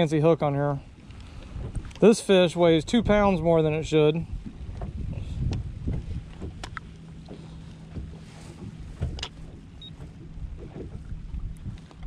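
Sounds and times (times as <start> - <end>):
water rumbling: 0.0 - 12.0
wind rumble: 0.9 - 12.0.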